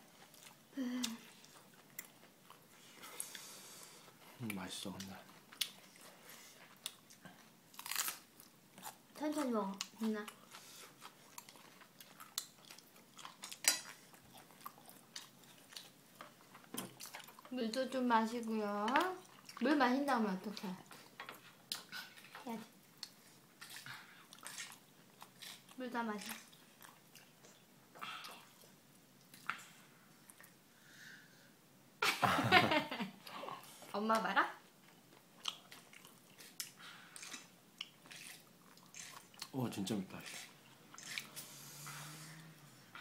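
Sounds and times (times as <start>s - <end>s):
child chewing: 0.0s - 31.6s, 33.2s - 43.0s.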